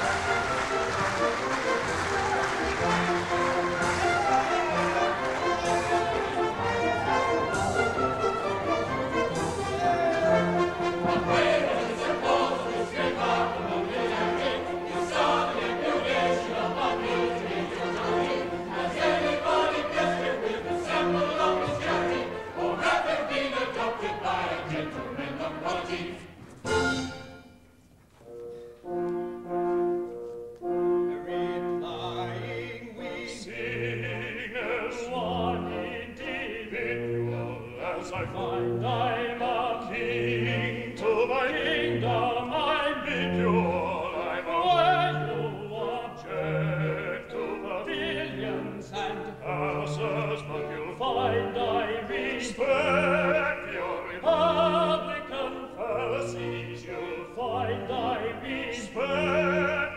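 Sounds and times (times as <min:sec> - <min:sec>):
theatre orchestra playing: 0:00.0 - 0:59.9.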